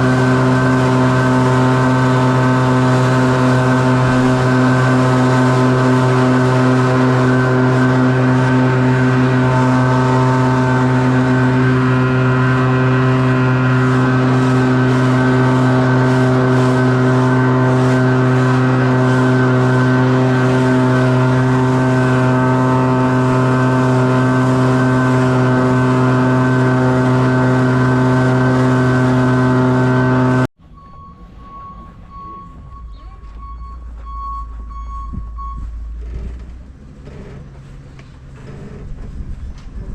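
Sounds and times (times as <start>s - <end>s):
small gas engine running: 0.0s - 30.5s, 35.6s - 39.9s.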